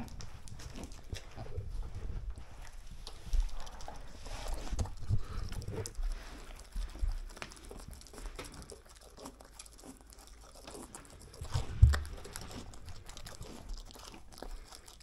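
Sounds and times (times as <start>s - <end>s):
pig crunching dry cereal: 0.0s - 15.0s.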